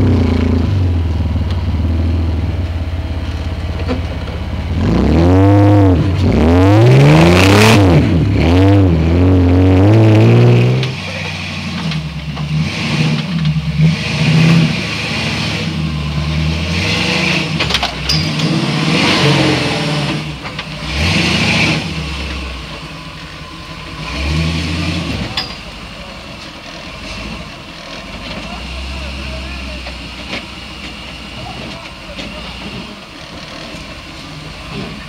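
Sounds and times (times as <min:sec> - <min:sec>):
buggy engines revving: 0:00.0 - 0:35.0.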